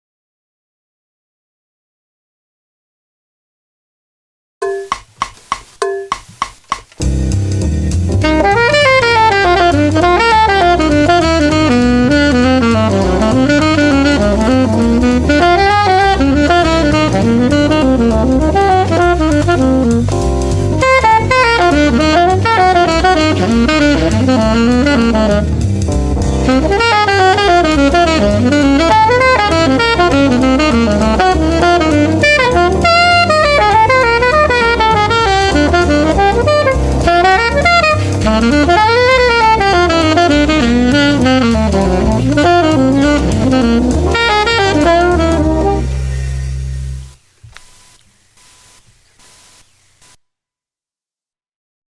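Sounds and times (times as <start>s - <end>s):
backing track with bass and drums: 4.6s - 47.9s
saxophone jazz solo: 4.7s - 50.2s.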